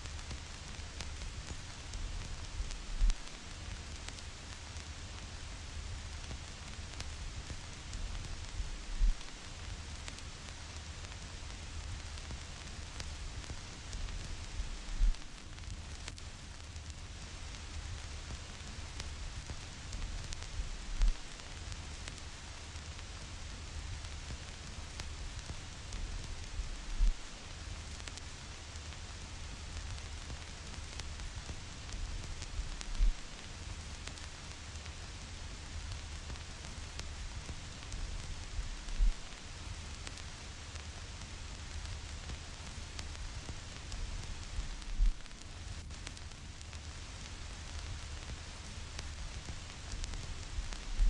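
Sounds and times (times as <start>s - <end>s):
vinyl record hiss and crackle: 0.0s - 51.0s.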